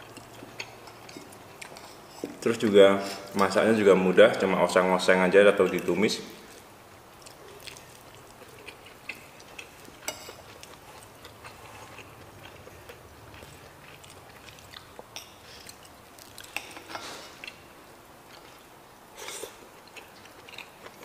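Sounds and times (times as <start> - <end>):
soft chewing: 0.0 - 3.5, 5.6 - 21.0.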